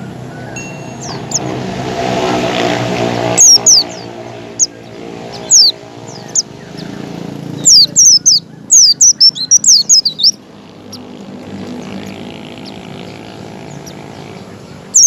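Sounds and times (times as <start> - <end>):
bird chirping: 0.0 - 1.8, 3.2 - 15.0
engine drone: 0.0 - 15.0.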